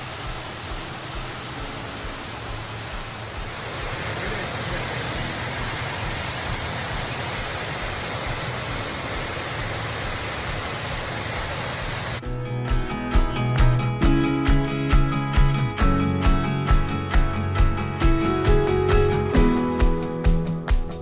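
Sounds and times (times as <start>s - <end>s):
waterfall rushing: 0.0s - 19.4s.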